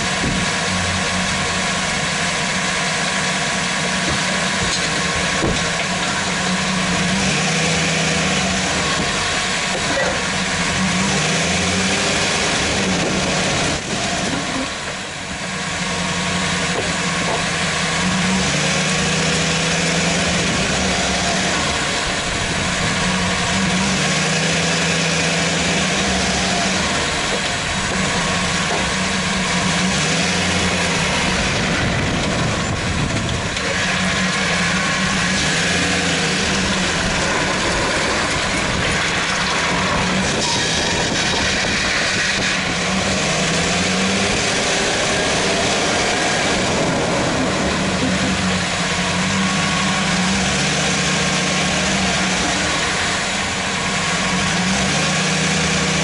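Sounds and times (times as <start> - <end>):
truck engine rumble: 0.0 - 56.0.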